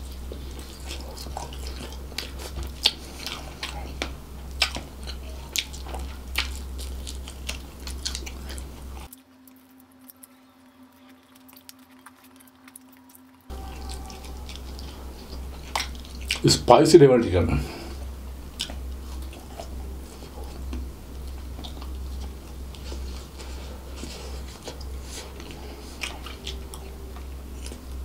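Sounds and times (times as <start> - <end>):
close chewing and mouth smacks: 0.0 - 16.5, 17.7 - 28.0
low background hum: 0.0 - 28.0.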